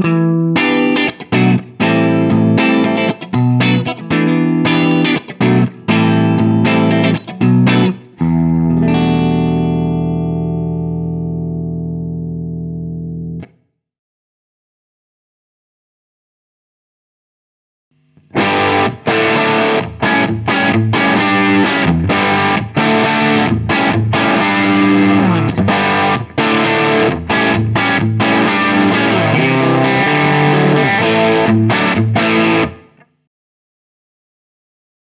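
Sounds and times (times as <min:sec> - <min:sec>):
distorted electric guitar riff: 0:00.0 - 0:13.5, 0:18.0 - 0:33.2.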